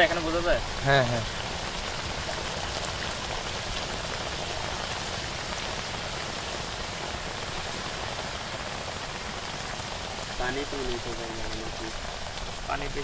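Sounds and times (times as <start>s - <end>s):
lime slurry fizzing hiss: 0.0s - 13.0s.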